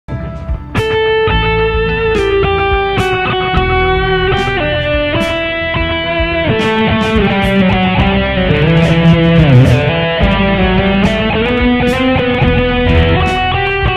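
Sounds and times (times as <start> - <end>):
electric guitar lead line: 0.1 - 13.9.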